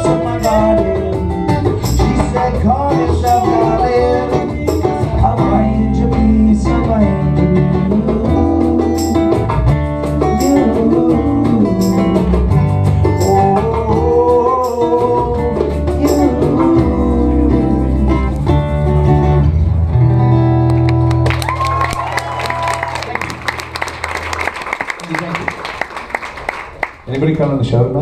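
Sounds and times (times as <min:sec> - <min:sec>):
acoustic guitars playing: 0:00.0 - 0:25.9.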